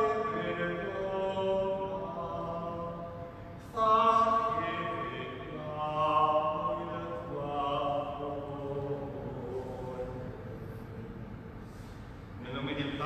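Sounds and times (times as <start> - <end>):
person singing a chant: 0.0 - 11.1.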